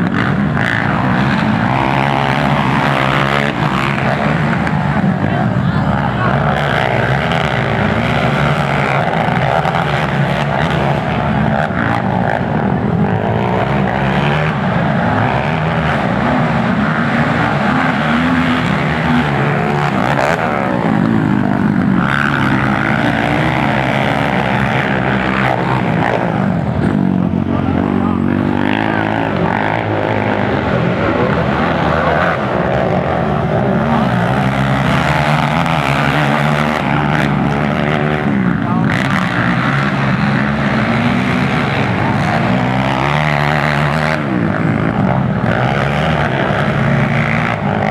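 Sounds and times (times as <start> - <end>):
quad engines revving: 0.0 - 47.9.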